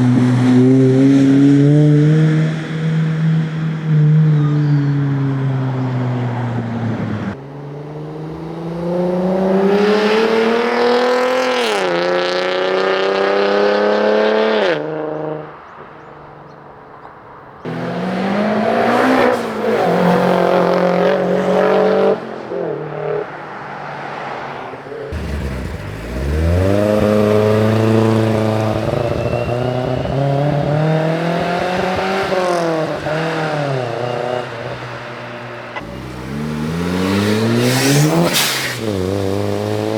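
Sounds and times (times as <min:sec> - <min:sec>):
car engines revving: 0:00.0 - 0:15.8, 0:17.6 - 0:39.9.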